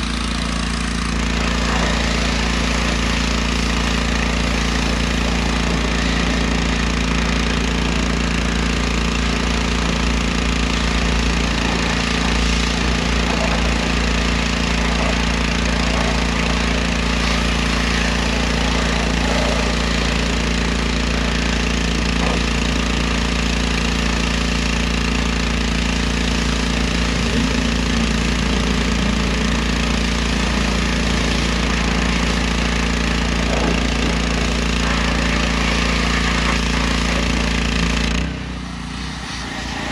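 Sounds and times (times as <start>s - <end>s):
high-pressure water jet hissing: 0.0s - 39.9s
pressure washer motor droning: 0.0s - 39.9s.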